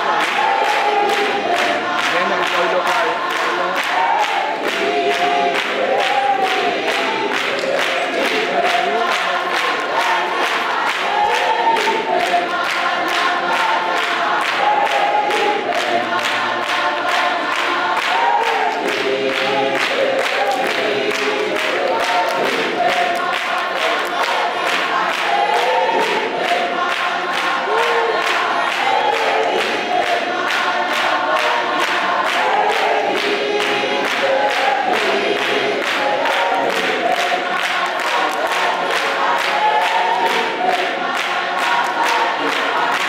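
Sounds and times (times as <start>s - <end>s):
congregation singing: 0.0s - 43.0s
hand claps: 0.0s - 43.0s.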